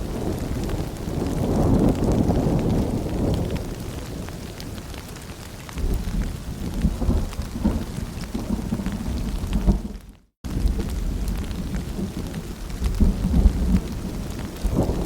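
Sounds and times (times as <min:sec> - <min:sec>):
rolling thunder: 0:00.0 - 0:04.7, 0:05.7 - 0:15.0
steady rain falling: 0:00.0 - 0:15.0.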